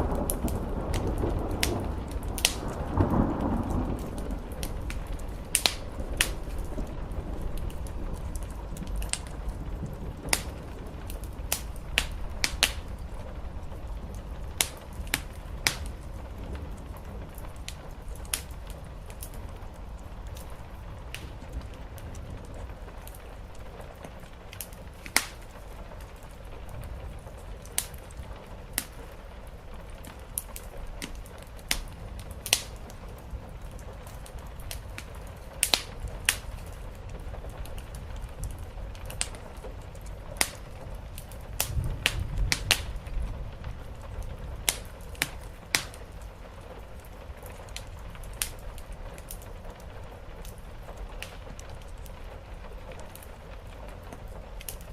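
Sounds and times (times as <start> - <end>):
rain on a roof: 0.0 - 54.9
wood fire crackling and popping: 0.0 - 54.9.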